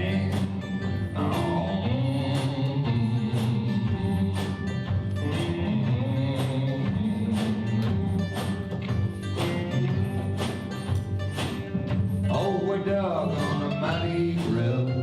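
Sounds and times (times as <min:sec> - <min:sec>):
blues band playing: 0:00.0 - 0:15.0
percussive hits: 0:00.2 - 0:12.3.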